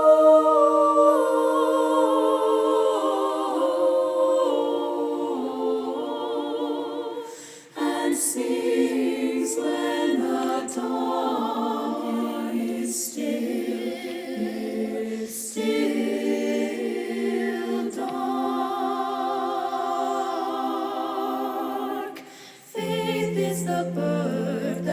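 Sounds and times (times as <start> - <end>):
choir singing a cappella: 0.0 - 24.9.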